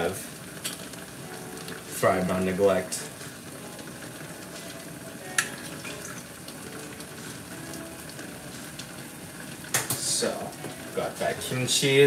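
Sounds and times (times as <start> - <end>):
pot sizzling on stove: 0.0 - 12.0.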